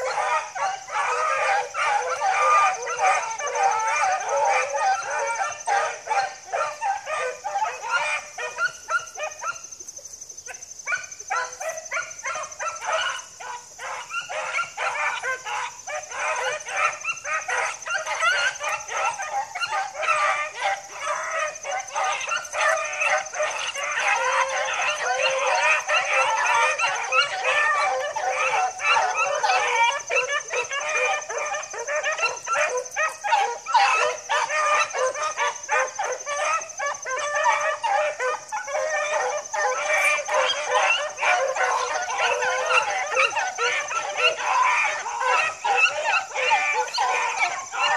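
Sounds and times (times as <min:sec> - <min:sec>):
pack of dogs baying: 0:00.0 - 0:47.9.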